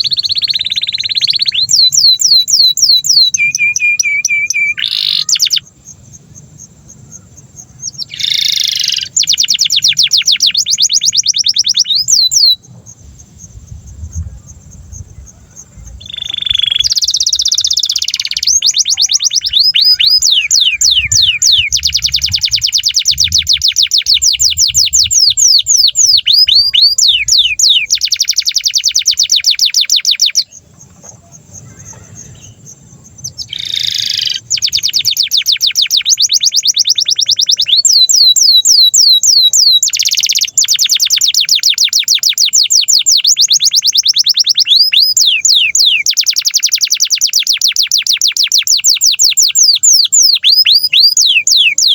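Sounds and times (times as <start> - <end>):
canary singing rolling trills: 0.0 - 51.9.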